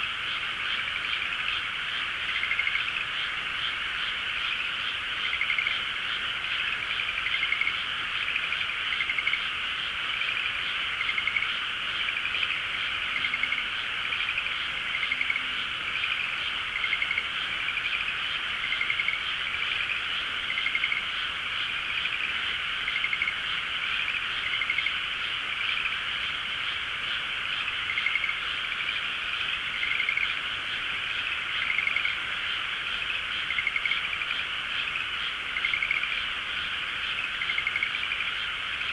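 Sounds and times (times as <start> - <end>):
frog chorus: 0.0 - 38.9
pulsed frog croaks: 0.0 - 38.9.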